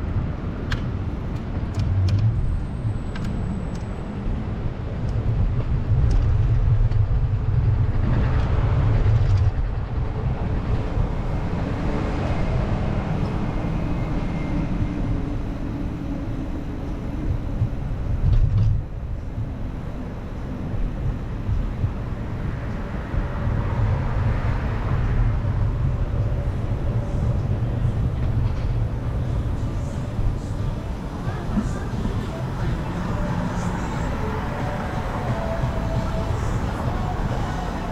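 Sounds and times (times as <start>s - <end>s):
low traffic rumble: 0.0s - 37.9s
vehicles passing on street: 0.0s - 37.9s.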